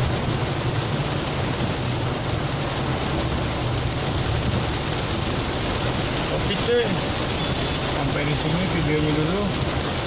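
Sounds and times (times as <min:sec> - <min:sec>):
rain and tyres on wet road: 0:00.0 - 0:10.0.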